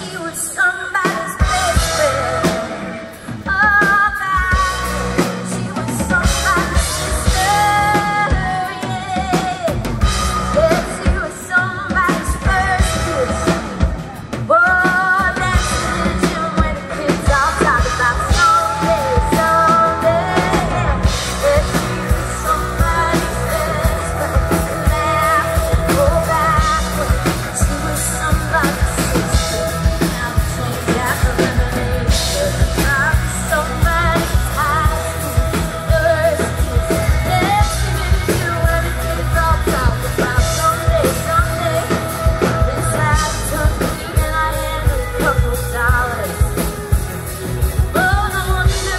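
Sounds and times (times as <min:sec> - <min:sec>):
drum kit beat: 0:00.0 - 0:48.9
electric guitars: 0:00.0 - 0:48.9
woman singing into a microphone: 0:00.0 - 0:48.9.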